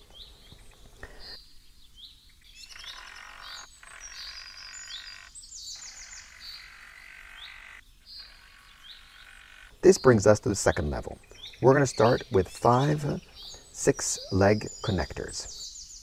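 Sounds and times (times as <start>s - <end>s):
bird trills: 0.0s - 16.0s
faint background noise: 0.0s - 16.0s.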